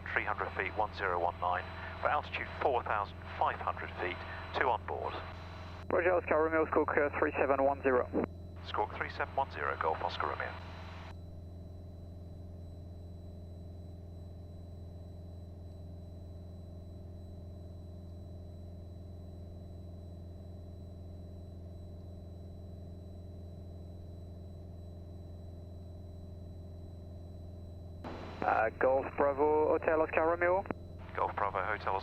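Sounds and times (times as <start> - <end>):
faint high-pitched whine: 0.0 - 32.0
light aircraft engine drone: 0.0 - 32.0.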